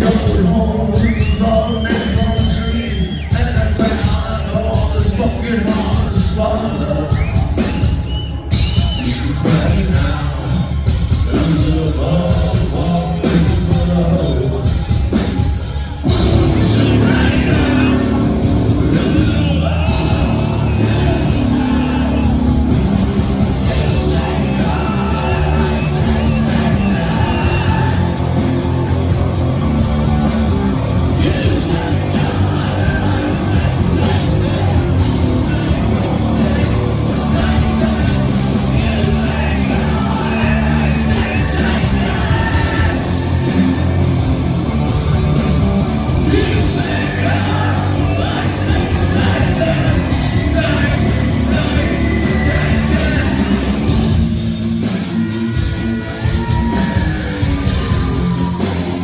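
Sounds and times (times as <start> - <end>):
rock band playing: 0.0 - 59.0
singer singing and yelling: 0.0 - 59.0.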